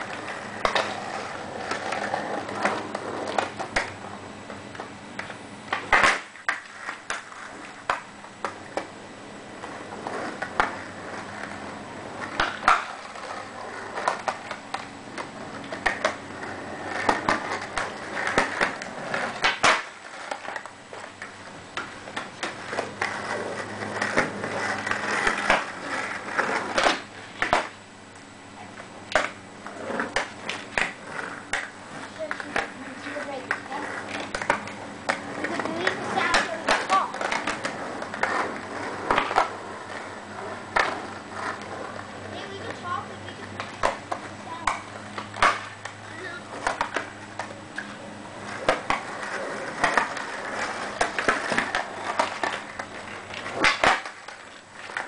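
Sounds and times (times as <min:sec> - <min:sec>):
skateboards clacking on pavement: 0:00.0 - 0:27.8, 0:28.6 - 0:55.0
skateboard wheels rolling on concrete: 0:00.0 - 0:55.0.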